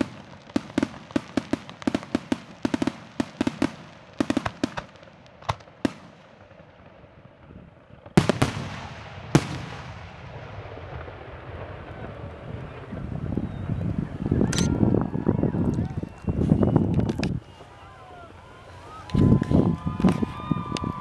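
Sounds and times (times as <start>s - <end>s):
fireworks crackling pops: 0.0s - 21.0s.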